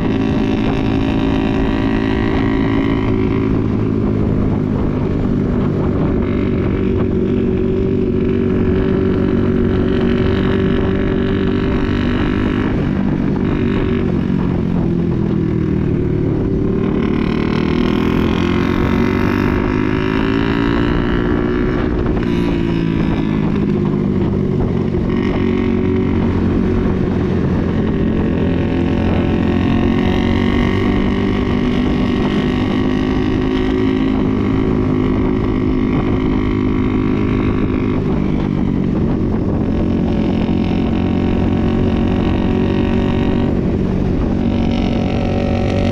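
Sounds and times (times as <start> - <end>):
motorcycle engine running: 0.0 - 45.9
wind noise: 0.0 - 45.9.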